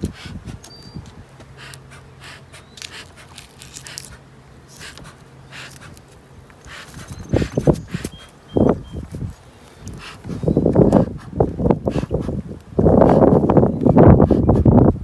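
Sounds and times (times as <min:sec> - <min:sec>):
honeybees buzzing: 0:00.0 - 0:14.8.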